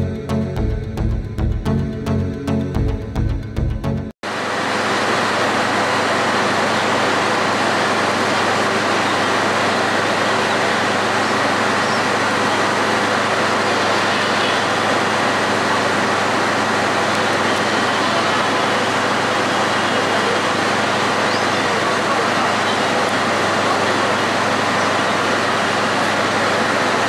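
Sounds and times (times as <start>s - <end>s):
diesel train moving off: 4.3s - 27.0s
road traffic: 4.3s - 27.0s.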